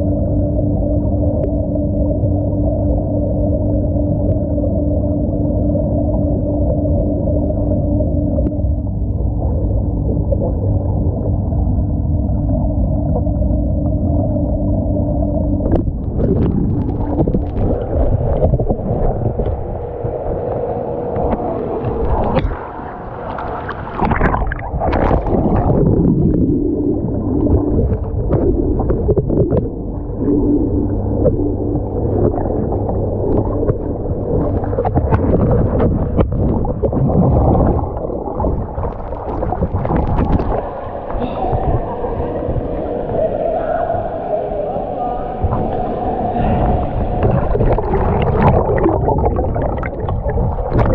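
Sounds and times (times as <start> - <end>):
muffled underwater hum: 0.0 - 50.9
underwater bubbling water: 0.0 - 50.9.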